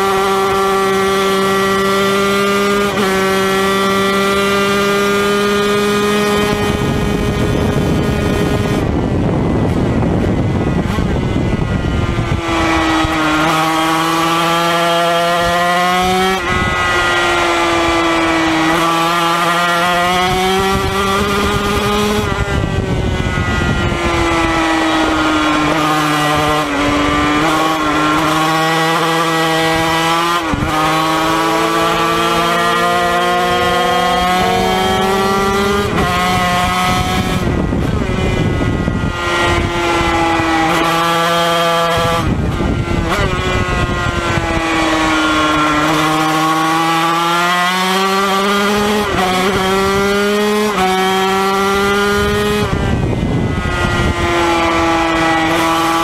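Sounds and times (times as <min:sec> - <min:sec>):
racing engine shifting gears: 0:00.0 - 0:56.0.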